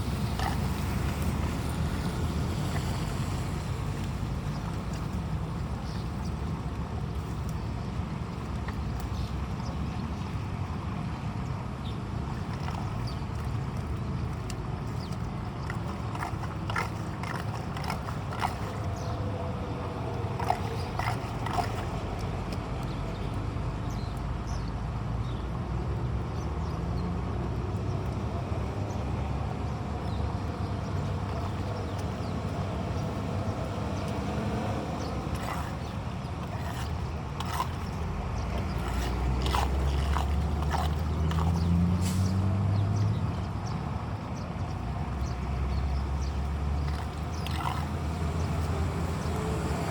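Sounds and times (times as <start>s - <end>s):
running floodwater: 0.0s - 49.9s.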